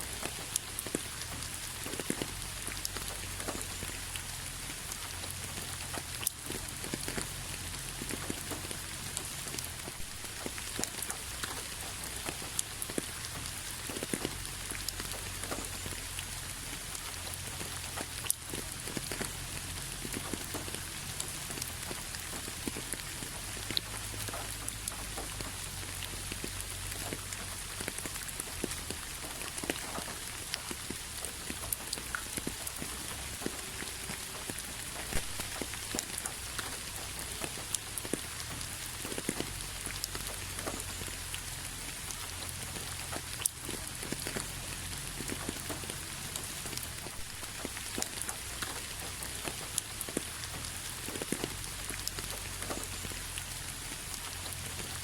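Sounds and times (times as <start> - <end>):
rain pattering on a hard surface: 0.0 - 55.0.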